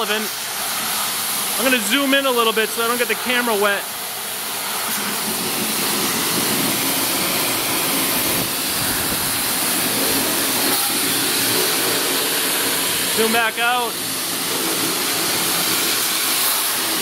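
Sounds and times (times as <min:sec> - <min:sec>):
pressure washer spraying water: 0:00.0 - 0:17.0.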